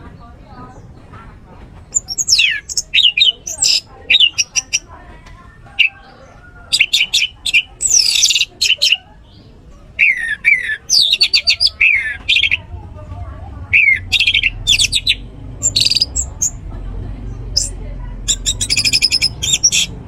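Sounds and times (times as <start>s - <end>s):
thrush singing: 0.0s - 20.0s.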